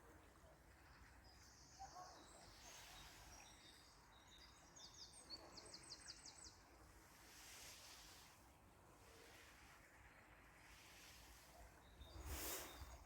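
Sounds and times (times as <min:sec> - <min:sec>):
faint bird song: 0:00.0 - 0:13.0.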